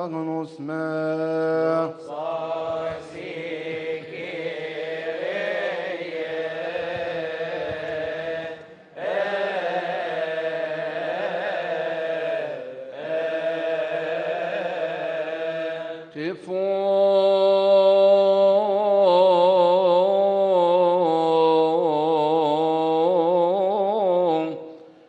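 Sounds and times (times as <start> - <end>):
male voices chanting in unison: 0.0 - 24.6.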